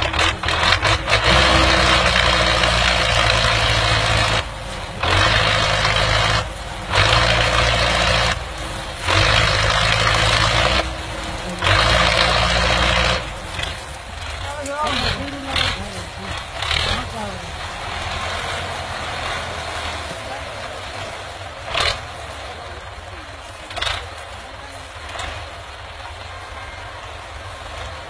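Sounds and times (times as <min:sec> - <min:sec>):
tractor engine revving hard: 0:00.0 - 0:28.0.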